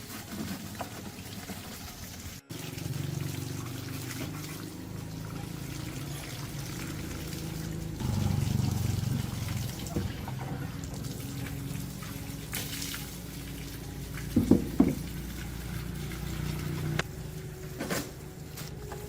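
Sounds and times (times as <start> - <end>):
water trickling and sloshing: 0.0 - 19.0.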